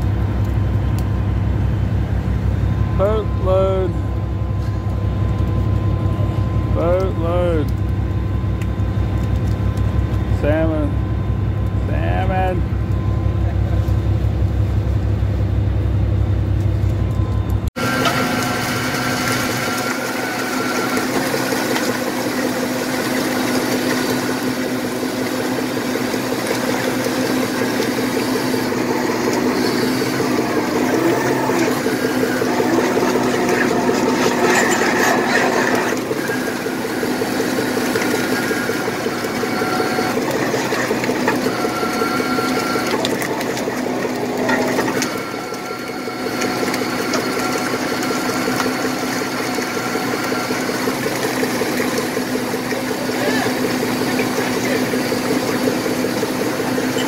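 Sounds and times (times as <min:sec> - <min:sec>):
boat engine droning: 0:00.0 - 0:57.0
machinery whine: 0:00.0 - 0:57.0.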